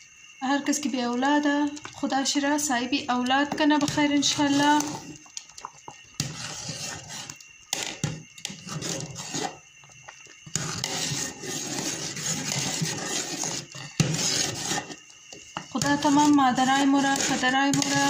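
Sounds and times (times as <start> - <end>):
spoon stirring in metal pot: 1.7 - 18.0.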